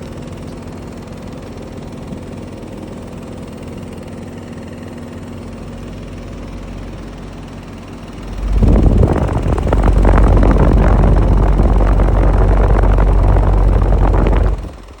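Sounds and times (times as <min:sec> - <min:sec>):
air conditioner unit rattling: 0:00.0 - 0:15.0.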